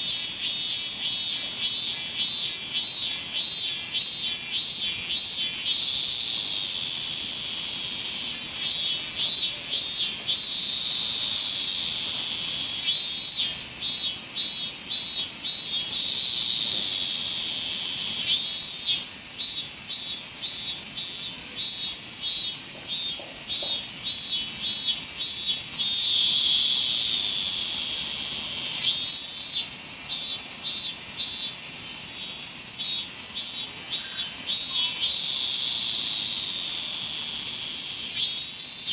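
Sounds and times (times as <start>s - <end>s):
cicada singing pulsed notes: 0.0s - 38.9s
high-pitched insect hiss: 0.0s - 38.9s.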